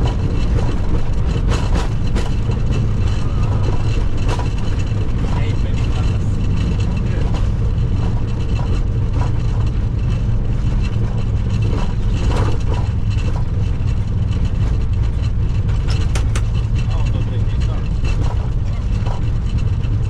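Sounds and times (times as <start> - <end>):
engine and runway rumble: 0.0 - 20.0.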